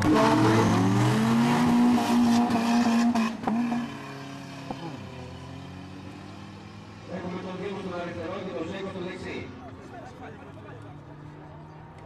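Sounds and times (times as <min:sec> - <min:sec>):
car engines at full throttle: 0:00.0 - 0:12.0.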